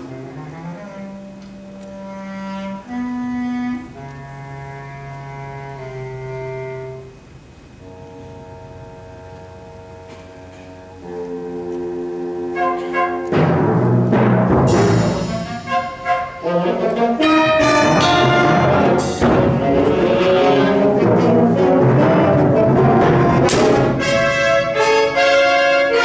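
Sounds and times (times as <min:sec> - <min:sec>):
ensemble playing slow melody: 0:00.0 - 0:26.0.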